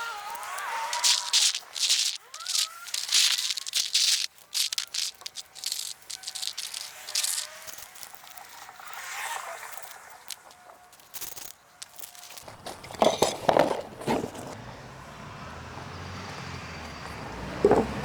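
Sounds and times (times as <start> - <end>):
gravel crunching and rattling: 0.0 - 14.8.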